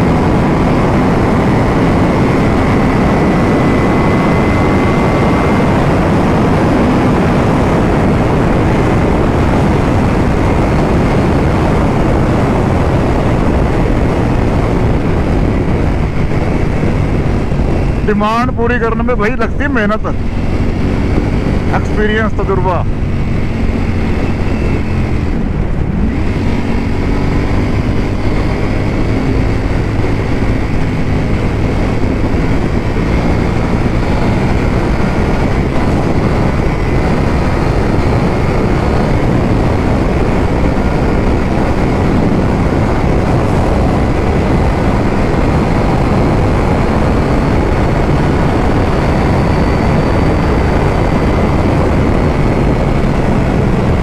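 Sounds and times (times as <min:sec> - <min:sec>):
motorcycle engine running: 0:00.0 - 0:54.0
wind rushing on microphone: 0:00.0 - 0:54.0.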